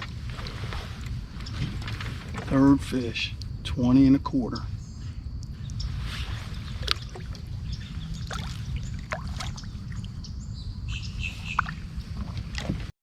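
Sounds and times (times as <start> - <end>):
wind rumble on microphone: 0.0 - 12.9
bird chirp: 1.3 - 2.0, 2.6 - 12.4.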